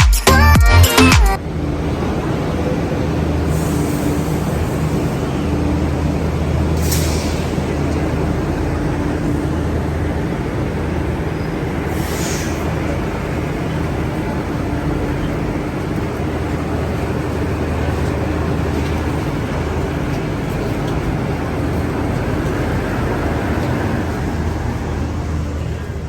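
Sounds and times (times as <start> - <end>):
metro train rumbling: 0.3 - 26.0.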